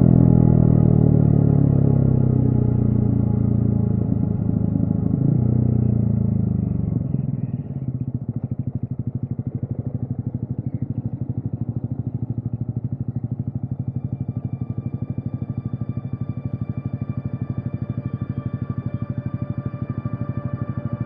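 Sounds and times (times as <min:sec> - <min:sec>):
motorcycle engine revving and idling: 0:00.0 - 0:21.0.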